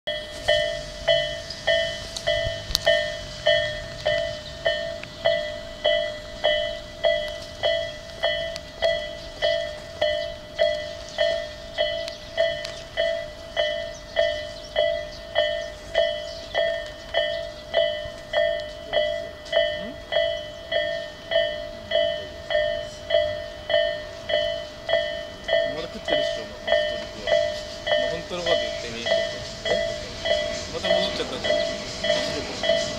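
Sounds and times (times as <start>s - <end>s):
level crossing warning bell: 0.1s - 32.9s.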